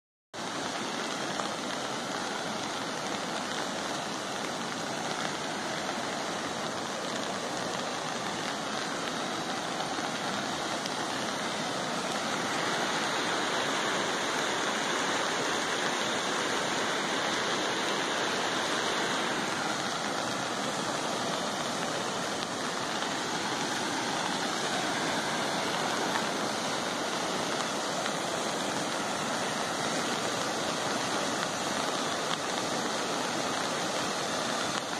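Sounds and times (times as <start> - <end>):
water rushing: 0.4 - 34.9.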